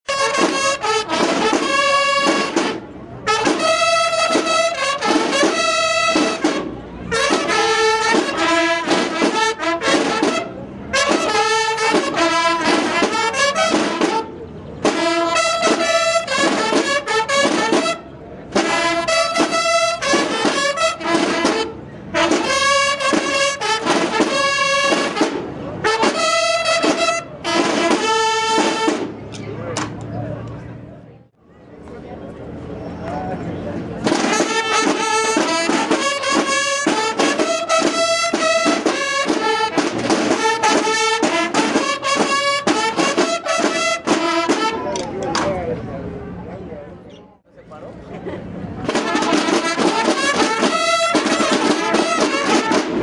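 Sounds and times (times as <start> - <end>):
snare drums: 0.1 - 30.0, 34.0 - 45.6, 48.8 - 53.0
bugles playing in unison: 0.1 - 30.7, 34.0 - 45.6, 48.8 - 53.0.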